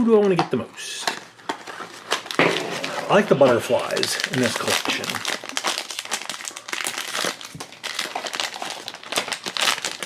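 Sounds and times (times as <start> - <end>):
foil bag crinkling and tearing: 0.9 - 10.0.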